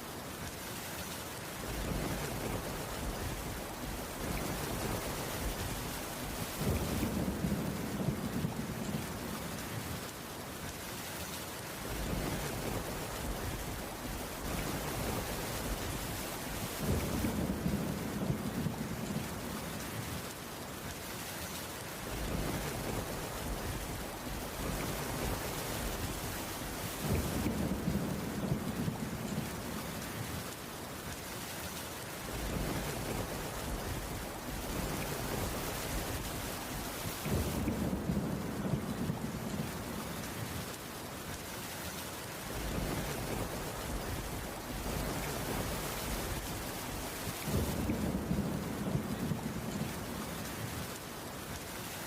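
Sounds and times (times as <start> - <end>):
heavy rain falling: 0.0 - 52.0
thunder rumbling: 1.6 - 9.9, 11.8 - 20.3, 22.0 - 30.5, 32.2 - 40.8, 42.5 - 50.9.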